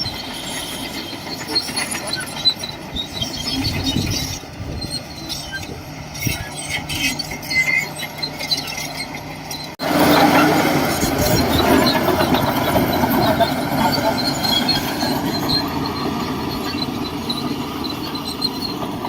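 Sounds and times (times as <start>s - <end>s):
bulldozer diesel engine: 0.0s - 19.0s
steel tracks squealing and rattling: 0.0s - 19.0s.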